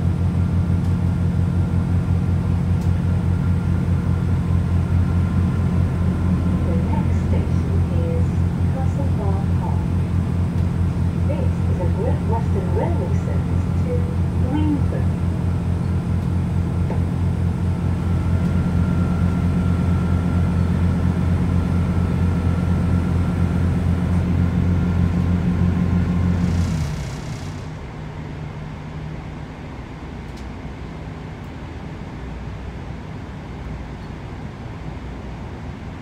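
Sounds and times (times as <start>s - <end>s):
diesel train engine drone: 0.0s - 36.0s.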